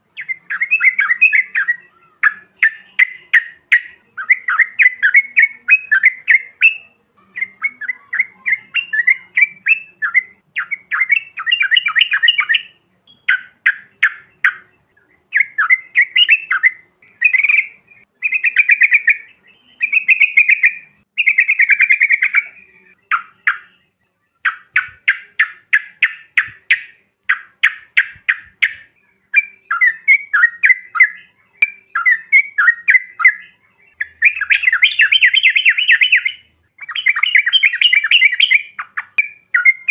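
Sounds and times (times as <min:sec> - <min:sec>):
birds calling and chattering: 0:00.0 - 0:39.9.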